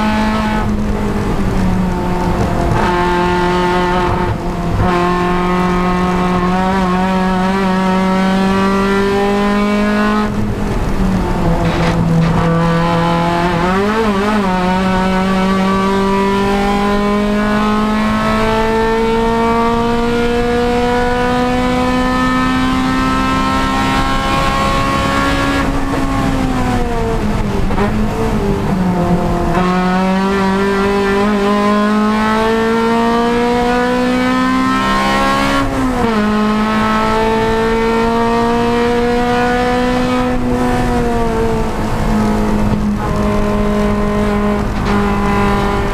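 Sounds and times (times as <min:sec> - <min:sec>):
race car engine revving: 0:00.0 - 0:45.9.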